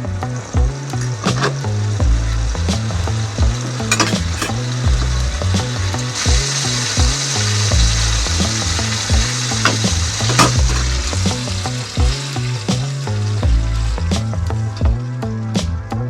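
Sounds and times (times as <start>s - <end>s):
food sizzling in a pan: 0.2s - 14.7s
utensil stirring food: 0.3s - 14.8s.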